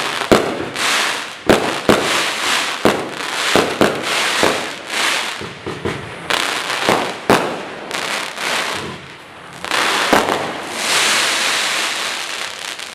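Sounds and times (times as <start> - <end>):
firework bangs: 0.0 - 12.9
firework crackling hiss: 0.0 - 12.9.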